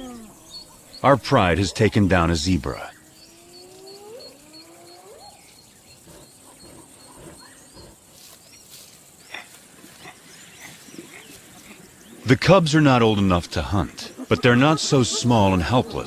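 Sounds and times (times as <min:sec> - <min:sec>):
faint chirps and ticks: 0:00.0 - 0:16.0.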